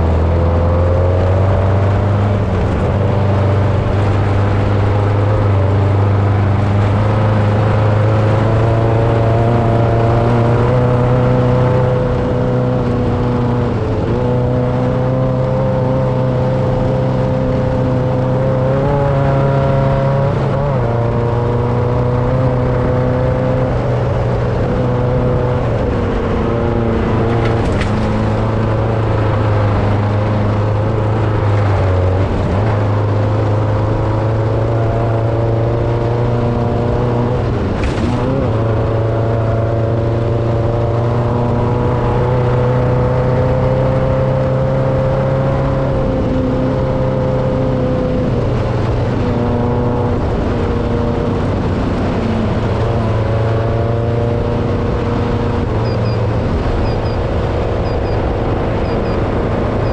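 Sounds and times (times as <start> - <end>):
race vehicle engine running: 0.0 - 59.9.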